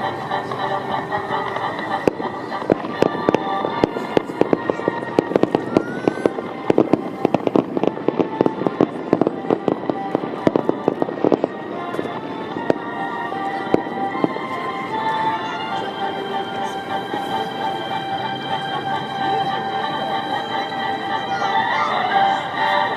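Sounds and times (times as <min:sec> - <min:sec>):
fireworks bangs and crackles: 0:00.0 - 0:22.9
music playing: 0:00.0 - 0:22.9.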